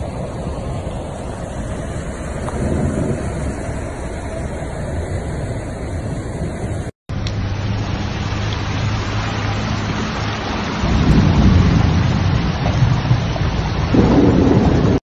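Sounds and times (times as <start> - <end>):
deep rumbling: 0.0 - 15.0
heavy rain on a car: 0.0 - 15.0.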